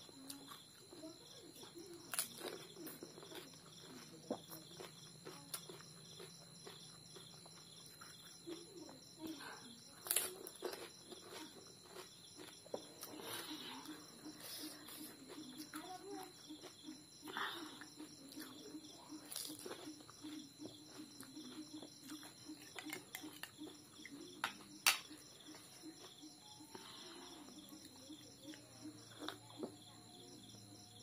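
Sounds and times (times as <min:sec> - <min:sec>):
person chewing food: 0:01.6 - 0:29.8.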